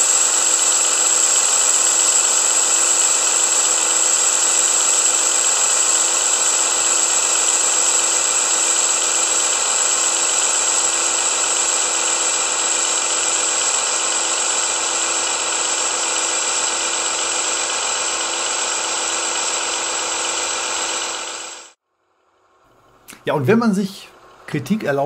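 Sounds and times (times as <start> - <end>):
model train diesel engine sound: 0.0 - 21.8.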